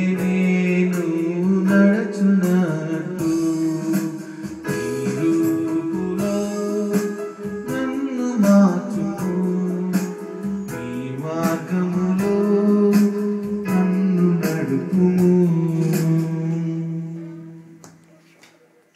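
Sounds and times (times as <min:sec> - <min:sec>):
electronic keyboard music: 0:00.0 - 0:18.9.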